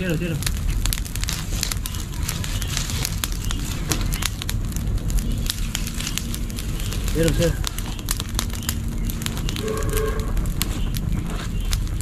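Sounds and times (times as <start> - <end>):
leaves crackling as they burn: 0.0 - 12.0
low fire rumble: 0.0 - 12.0.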